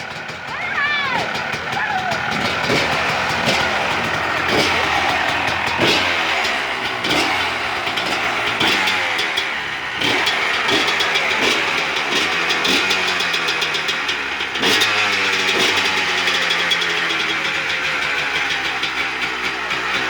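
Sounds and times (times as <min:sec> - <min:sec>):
two-stroke motorbike engine revving: 0:00.0 - 0:20.0.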